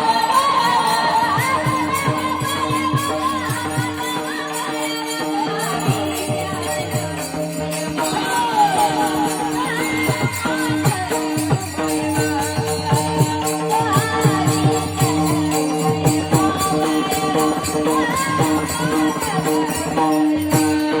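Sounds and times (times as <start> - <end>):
girls singing devotional melody: 0.0 - 21.0
jingling hand cymbals: 0.0 - 21.0.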